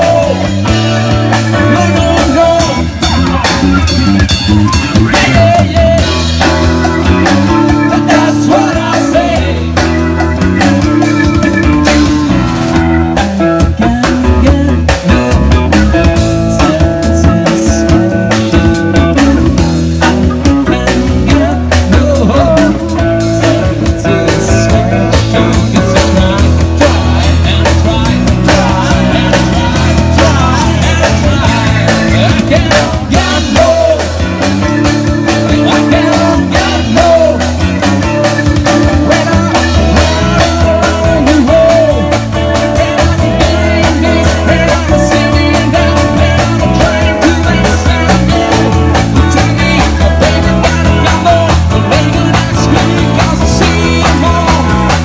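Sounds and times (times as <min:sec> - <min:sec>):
loud rock band music: 0:00.0 - 0:55.0.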